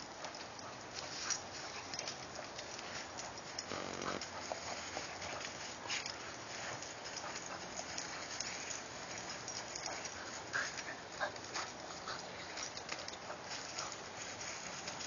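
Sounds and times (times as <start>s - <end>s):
paws crunching dry leaves: 0.7s - 15.0s
stick rustling through leaves: 0.8s - 15.0s.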